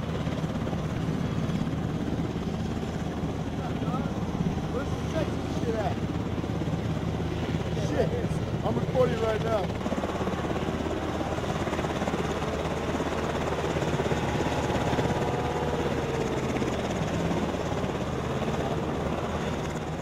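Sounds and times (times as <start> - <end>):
engines running: 3.2 - 20.0.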